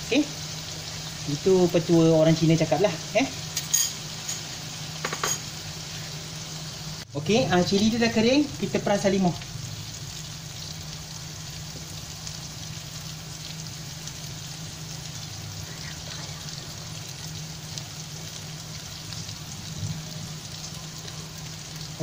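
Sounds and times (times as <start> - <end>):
paste sizzling in oil: 0.0 - 22.0.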